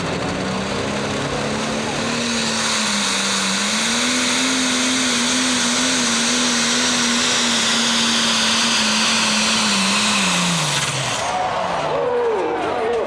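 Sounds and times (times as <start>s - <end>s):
diesel engine at full throttle: 0.0s - 13.0s.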